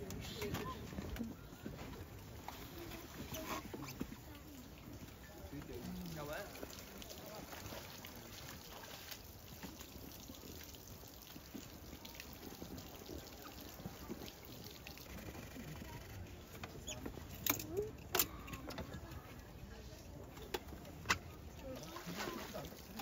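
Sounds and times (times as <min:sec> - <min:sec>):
water trickling into pond: 0:00.0 - 0:23.0.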